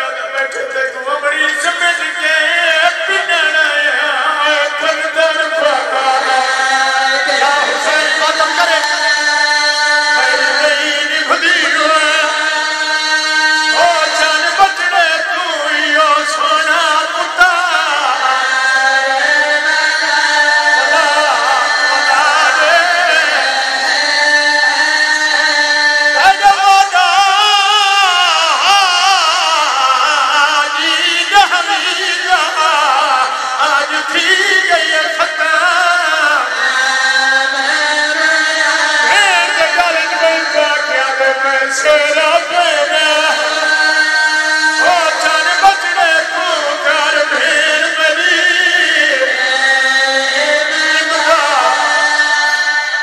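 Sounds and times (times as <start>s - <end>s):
man singing a mournful lament: 0.0s - 53.0s.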